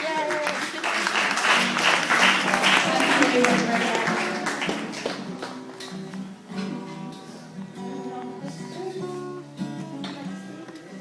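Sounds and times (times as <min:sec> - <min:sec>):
acoustic guitar plucked notes: 0:01.6 - 0:11.0.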